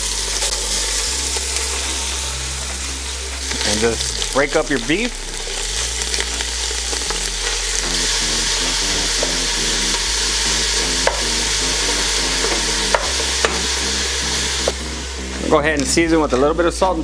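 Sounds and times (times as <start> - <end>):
meat sizzling in hot oil: 0.0 - 15.8.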